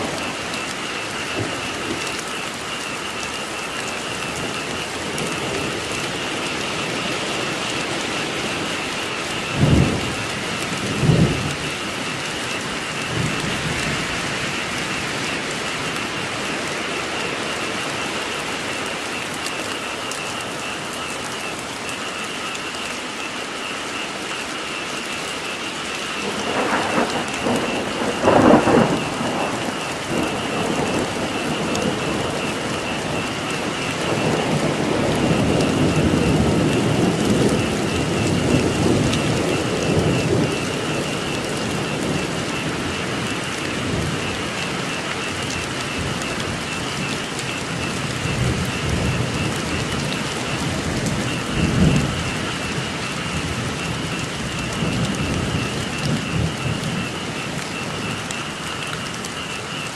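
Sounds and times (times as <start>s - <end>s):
frogs croaking: 0.0s - 59.9s
steady rain: 0.0s - 59.9s.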